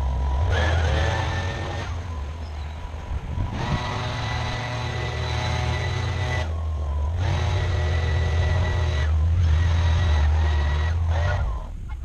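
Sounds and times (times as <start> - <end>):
skid steer engine droning: 0.0 - 12.0.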